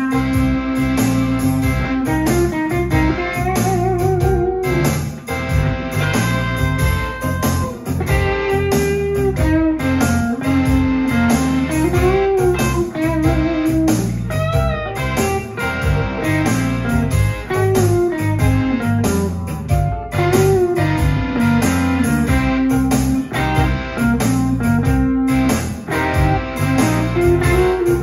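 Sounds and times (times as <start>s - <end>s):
electric guitar blues lead: 0.0s - 28.0s
low accompaniment with a beat: 0.0s - 28.0s.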